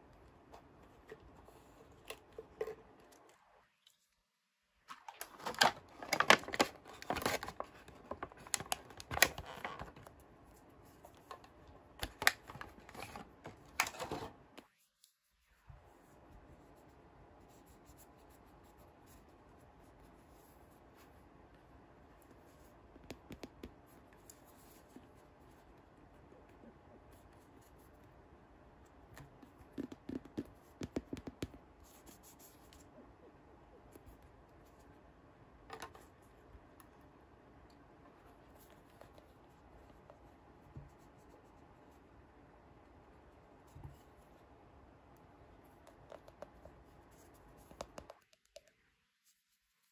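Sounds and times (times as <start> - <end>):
faint room hiss: 0.0 - 49.9.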